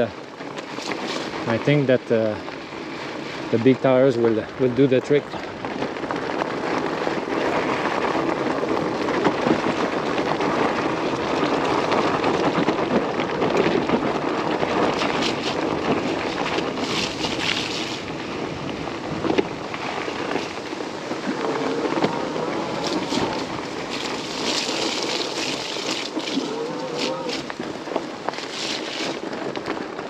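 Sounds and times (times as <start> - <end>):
bike tires rolling over gravel: 0.0 - 30.0.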